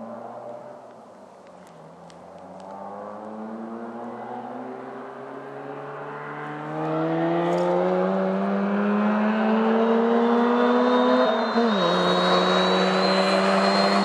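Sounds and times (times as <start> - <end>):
rotary engine accelerating: 2.4 - 14.0.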